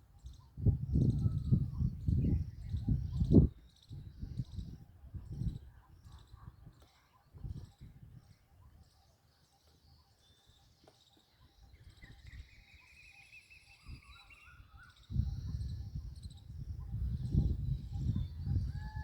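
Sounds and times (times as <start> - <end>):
insects and birds chirping: 0.0 - 19.0.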